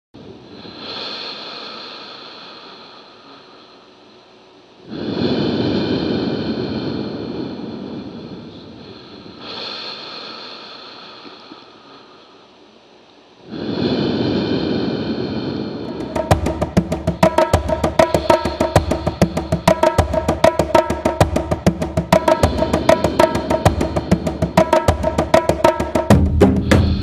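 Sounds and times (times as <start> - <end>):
surging ambient noise: 0.2 - 27.0.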